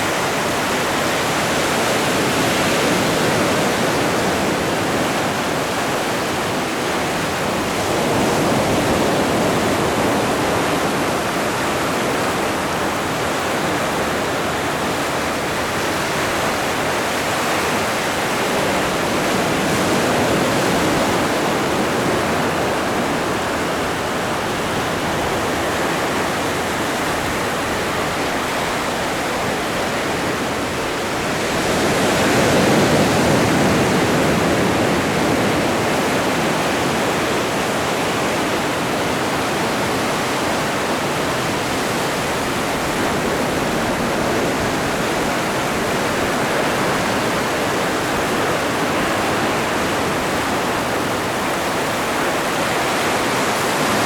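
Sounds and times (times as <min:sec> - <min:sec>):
waves breaking: 0:00.0 - 0:54.0.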